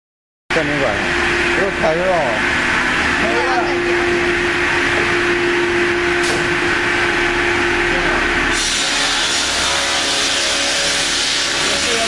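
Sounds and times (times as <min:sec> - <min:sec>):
sawmill mechanical hum: 0:00.5 - 0:12.0.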